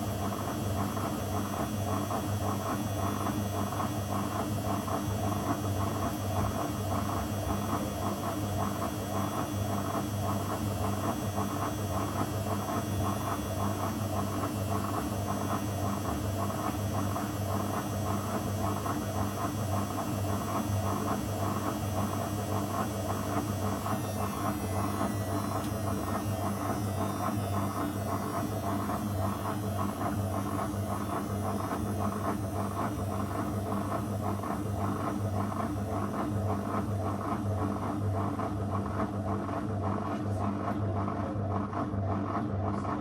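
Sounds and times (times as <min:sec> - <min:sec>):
washing machine running: 0:00.0 - 0:43.0.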